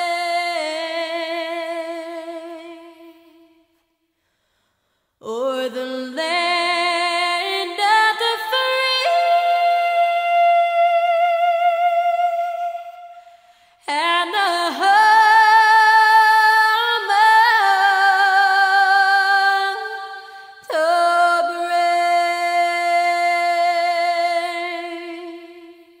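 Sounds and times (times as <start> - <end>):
woman singing unaccompanied: 0.0 - 3.6, 5.2 - 13.2, 13.8 - 26.0.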